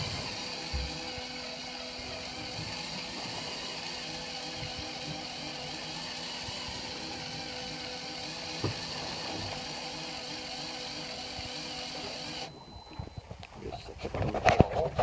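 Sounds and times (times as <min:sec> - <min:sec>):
boat engine running: 0:00.0 - 0:13.4.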